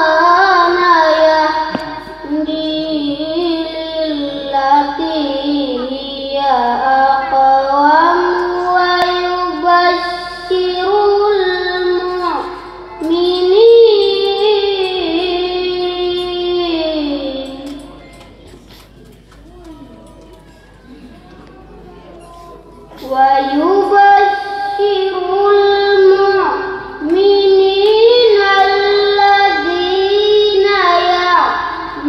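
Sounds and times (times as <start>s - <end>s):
child chanting: 0.0s - 18.4s, 21.6s - 32.0s.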